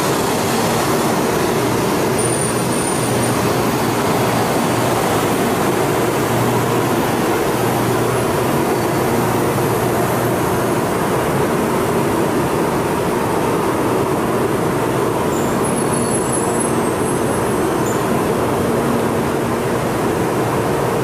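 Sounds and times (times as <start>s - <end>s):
train rushing noise: 0.0s - 21.0s.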